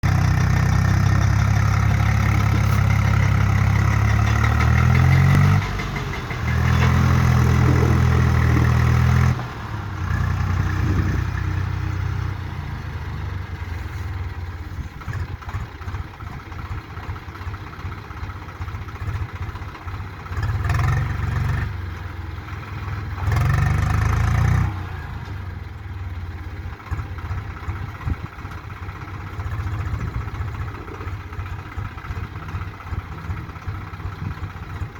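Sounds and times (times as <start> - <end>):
tractor diesel engine revving: 0.0 - 34.9.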